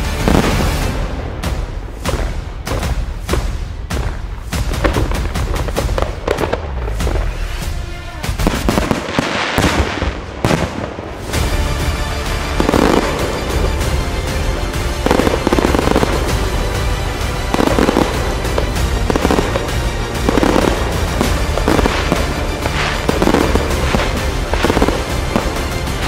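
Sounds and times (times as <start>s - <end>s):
fireworks crackling and bursting: 0.0s - 26.0s
recorded music: 0.0s - 26.0s.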